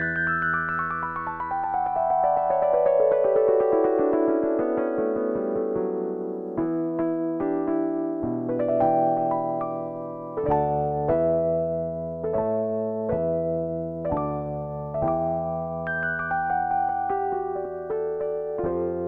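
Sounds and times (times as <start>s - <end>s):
synthesizer chords and melody: 0.0s - 19.0s.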